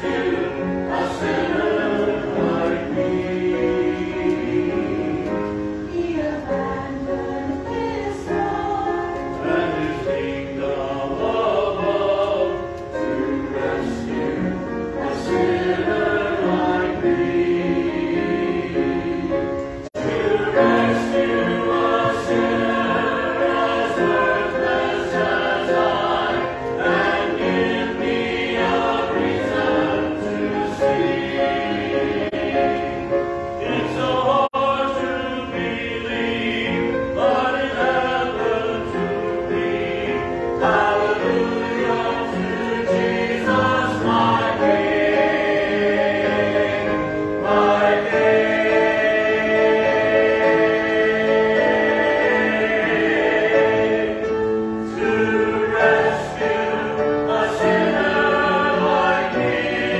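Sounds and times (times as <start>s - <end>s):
church choir singing a hymn: 0.0s - 59.9s.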